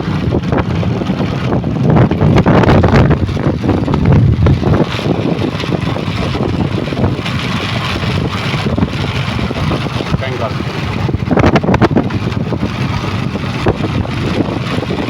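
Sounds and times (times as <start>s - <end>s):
motor vehicle noise: 0.0s - 15.0s
wind buffeting microphone: 0.0s - 15.0s.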